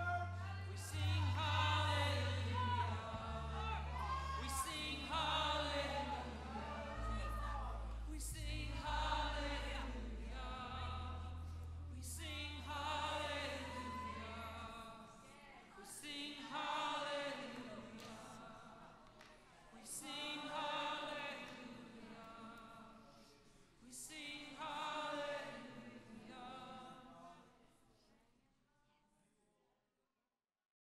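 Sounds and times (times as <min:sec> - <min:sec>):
voices singing: 0:00.0 - 0:27.6.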